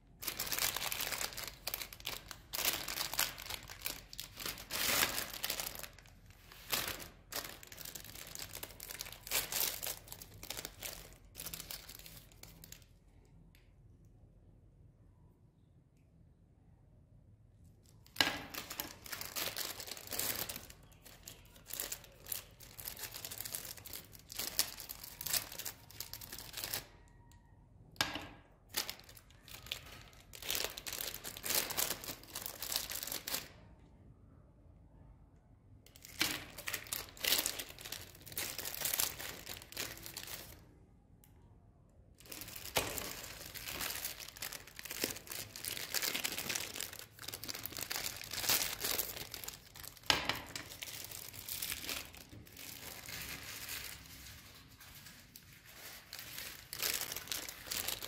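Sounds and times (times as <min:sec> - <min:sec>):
plastic wrappers crinkling: 0:00.0 - 0:13.0, 0:17.9 - 0:27.3, 0:28.0 - 0:33.6, 0:35.9 - 0:40.7, 0:42.2 - 0:58.0.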